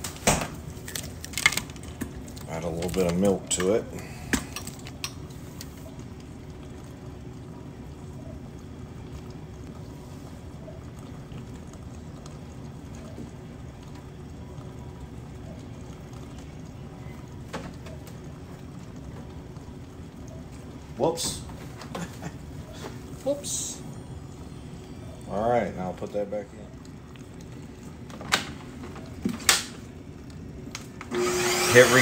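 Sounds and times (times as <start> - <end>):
faint steady hum: 0.0 - 32.0
milk trickling into container: 0.6 - 29.2.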